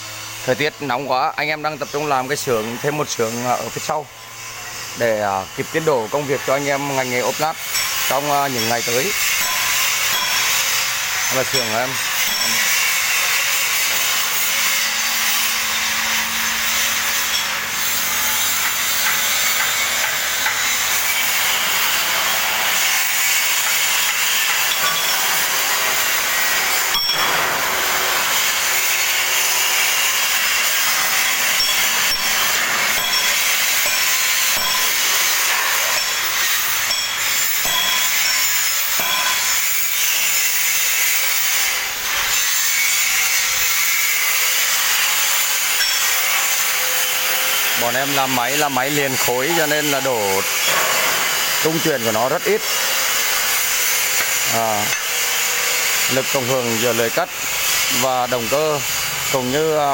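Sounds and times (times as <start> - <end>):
power cutting tool rasping hiss: 0.0 - 59.9.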